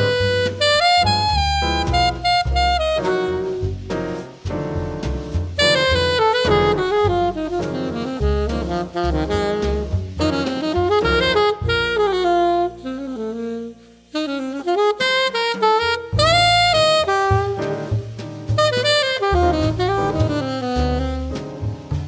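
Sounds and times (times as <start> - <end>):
alto saxophone melody: 0.0 - 4.5, 5.6 - 22.0
double bass: 0.0 - 22.0
grand piano: 0.0 - 22.0.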